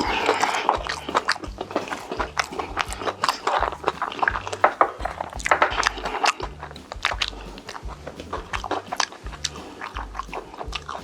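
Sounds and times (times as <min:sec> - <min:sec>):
mouth clicks: 0:00.0 - 0:11.0
wet chewing: 0:00.0 - 0:11.0.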